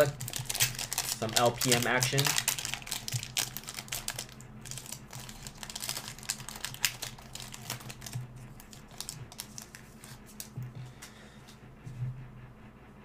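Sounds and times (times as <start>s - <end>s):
foil wrapper crinkling: 0.0s - 10.5s.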